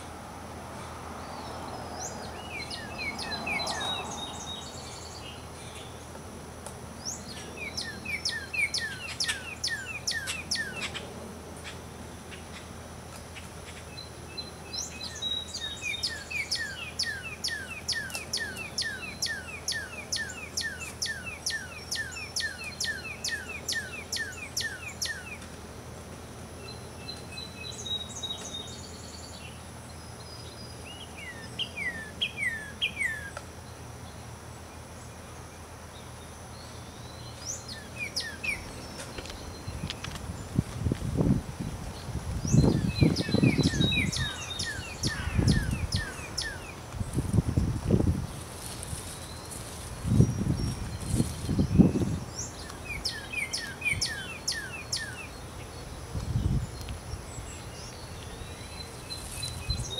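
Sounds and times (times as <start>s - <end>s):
faint background hiss: 0.0s - 59.9s
birds chirping: 0.8s - 6.2s, 6.9s - 25.6s, 26.6s - 59.9s.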